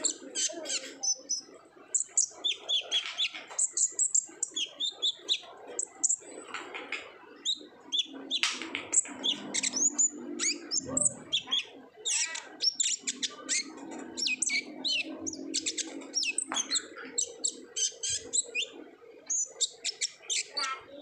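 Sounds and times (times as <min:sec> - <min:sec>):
sunbird singing high chirps: 0:00.0 - 0:06.2, 0:07.4 - 0:21.0.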